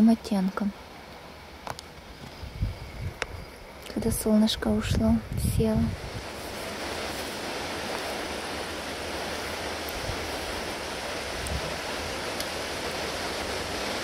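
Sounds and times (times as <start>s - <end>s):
wind rushing through trees: 0.0s - 14.0s
low rumbling wind buffets: 1.3s - 14.0s.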